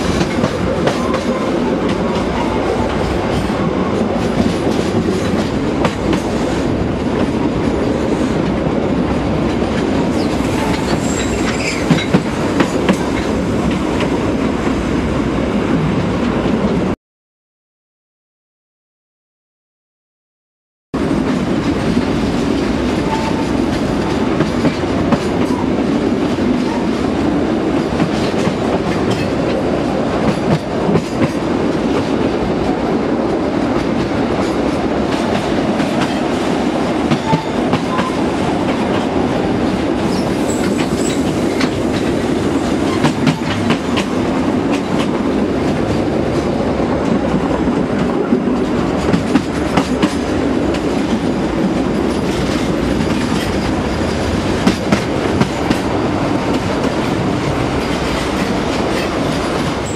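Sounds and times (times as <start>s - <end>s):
train wagons rumbling: 0.0s - 17.0s, 21.0s - 59.9s.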